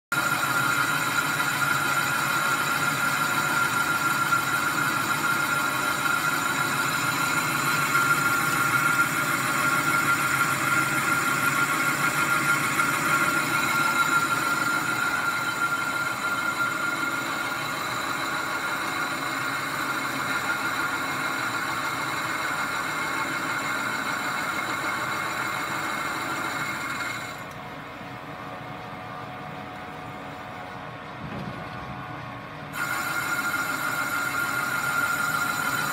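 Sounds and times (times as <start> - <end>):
metal lathe running: 0.1 - 27.6, 32.7 - 35.9
boring bar high-pitched squeal: 0.2 - 27.4, 32.8 - 35.9.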